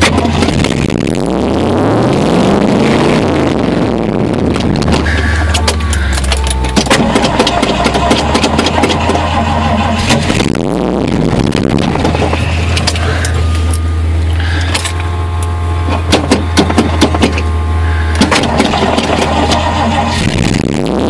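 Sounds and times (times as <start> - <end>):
engine popping: 0.0 - 21.0
starter cranking engine: 0.0 - 21.0.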